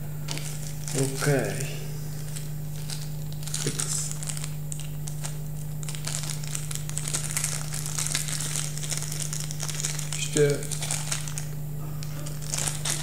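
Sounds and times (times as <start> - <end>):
plastic bag crinkling: 0.3 - 13.0.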